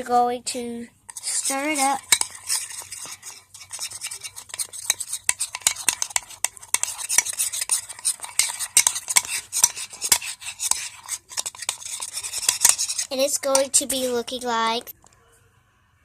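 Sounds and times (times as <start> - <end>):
spoon stirring thick slime: 0.1 - 15.2
rapid clicks and wet scraping: 1.1 - 15.2.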